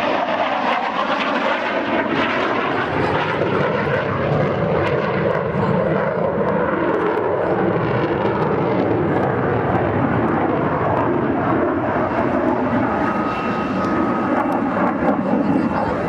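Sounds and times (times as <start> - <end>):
jet engine running loud: 0.0 - 16.0.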